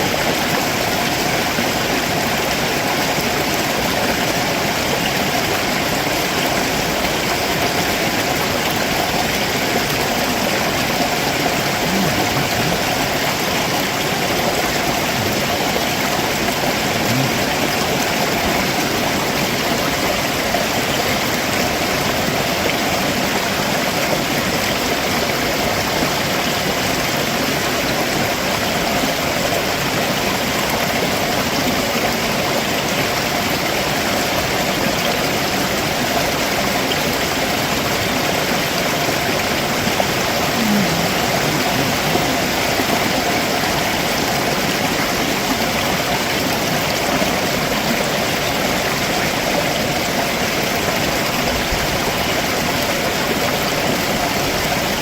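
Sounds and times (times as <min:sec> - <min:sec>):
stream water splashing over rocks: 0:00.0 - 0:55.0.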